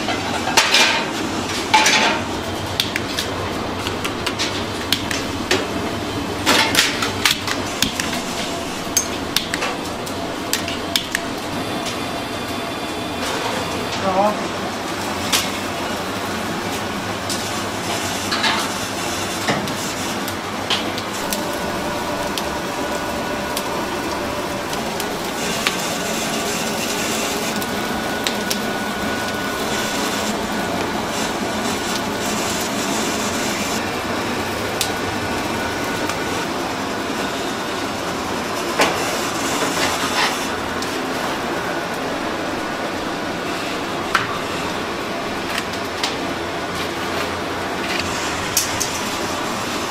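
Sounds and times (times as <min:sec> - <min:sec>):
grill rumble: 0:00.0 - 0:49.9.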